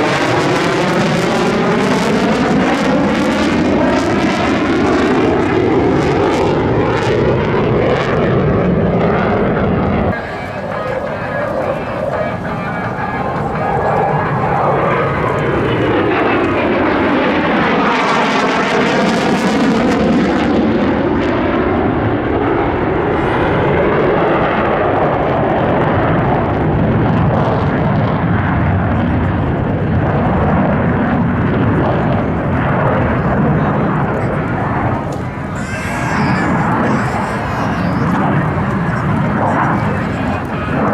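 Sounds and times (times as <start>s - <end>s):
jet passing: 0.0s - 40.9s.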